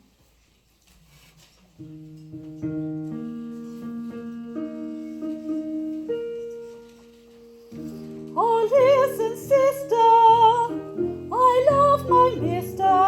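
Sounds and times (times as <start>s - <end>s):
piano playing: 1.8s - 13.0s.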